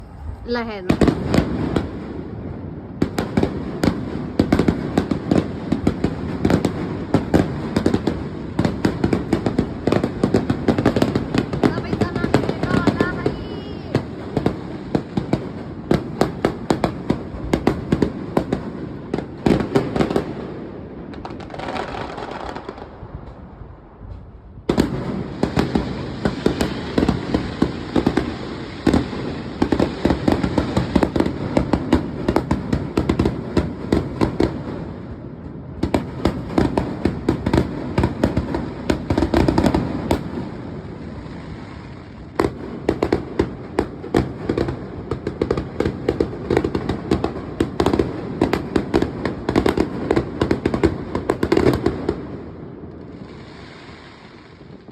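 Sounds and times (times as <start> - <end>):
fireworks cracking and banging: 0.0 - 54.9.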